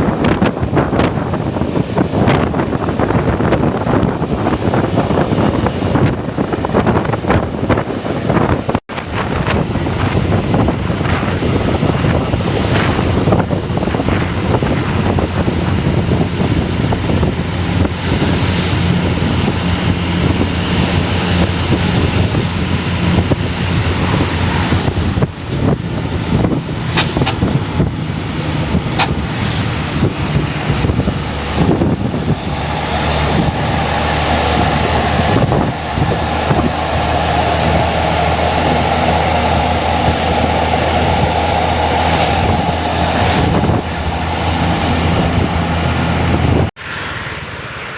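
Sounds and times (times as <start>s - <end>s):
wind buffeting microphone: 0.0s - 46.8s
bus engines droning: 0.0s - 47.9s.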